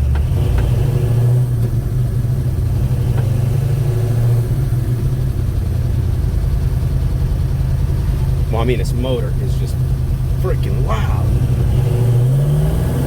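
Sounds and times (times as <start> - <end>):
loud car engine running: 0.0 - 13.0.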